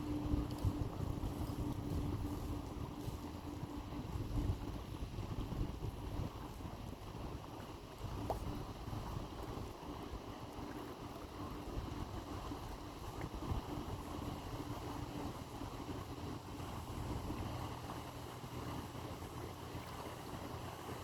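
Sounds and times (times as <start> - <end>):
boat engines rumbling: 0.0 - 21.0.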